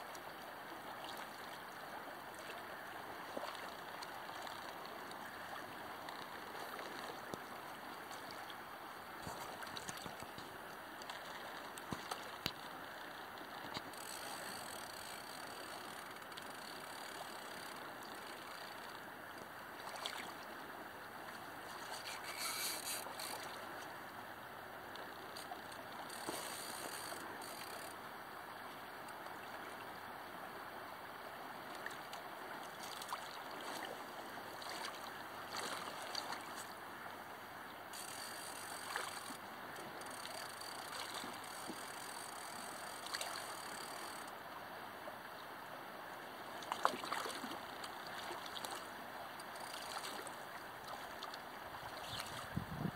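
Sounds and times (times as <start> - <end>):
river water flowing: 0.0 - 52.9.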